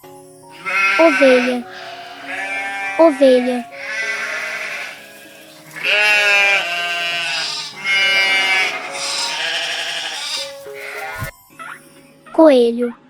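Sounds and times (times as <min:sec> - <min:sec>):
sheep bleating: 0:00.5 - 0:11.3.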